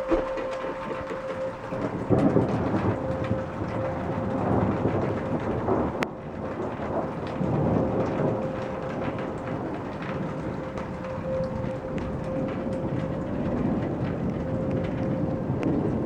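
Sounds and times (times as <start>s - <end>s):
distant warning siren: 0.0s - 16.0s
rumbling storm noise: 0.0s - 16.0s.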